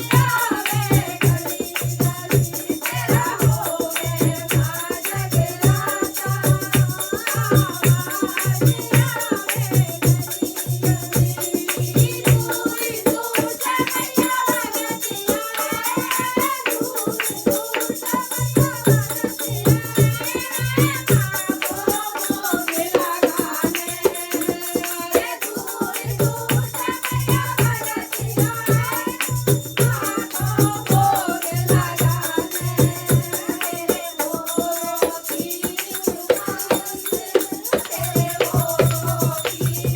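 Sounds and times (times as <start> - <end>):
jingling tambourine-like percussion: 0.0 - 39.9
person singing devotional melody: 0.0 - 39.9.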